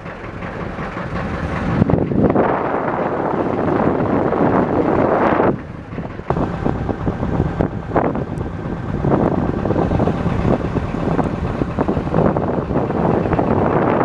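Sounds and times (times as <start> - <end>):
motorboat engine humming: 0.0 - 14.0
wind buffeting microphone: 0.0 - 14.0.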